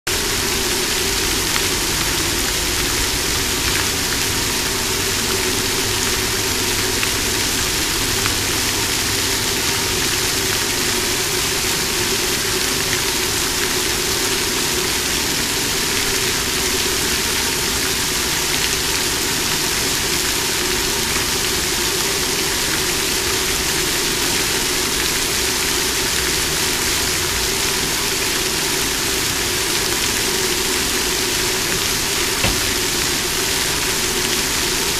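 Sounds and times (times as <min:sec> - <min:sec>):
water fountain splashing: 0:00.1 - 0:34.9.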